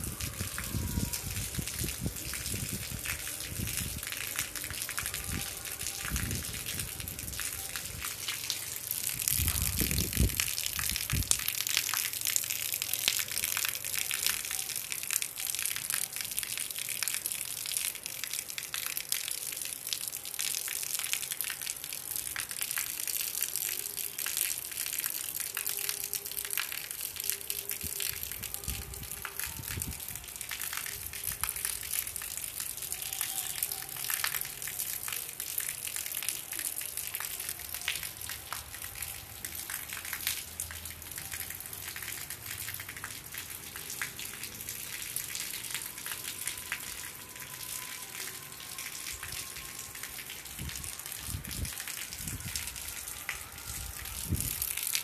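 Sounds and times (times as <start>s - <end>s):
rain on concrete roof: 0.0s - 55.0s.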